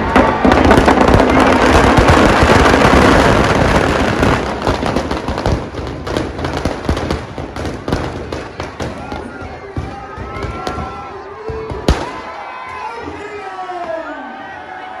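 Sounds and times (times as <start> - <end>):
firecrackers crackling: 0.0 - 12.4.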